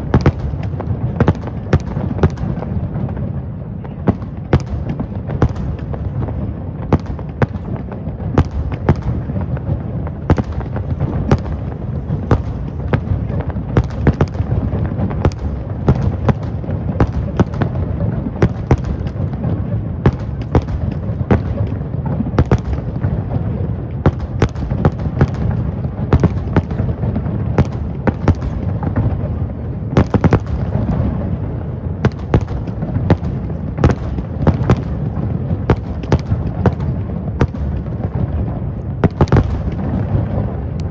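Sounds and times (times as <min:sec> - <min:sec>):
fireworks bursting: 0:00.0 - 0:40.9
low rumble of explosions: 0:00.0 - 0:40.9.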